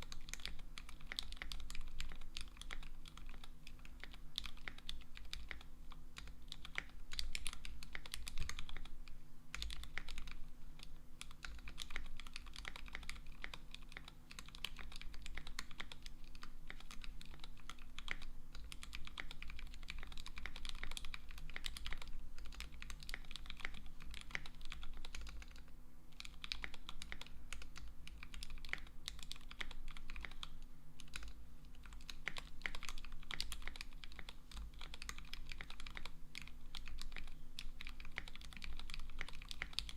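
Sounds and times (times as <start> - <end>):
mechanical keyboard typing: 0.0 - 8.9, 9.5 - 39.9.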